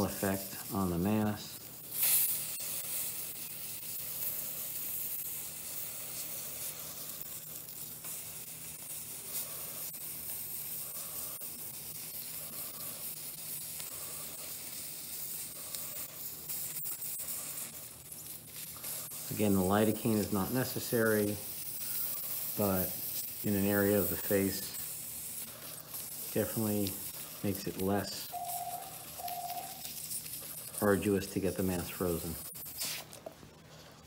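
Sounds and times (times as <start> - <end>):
cryo pen hissing: 0.0 - 34.0.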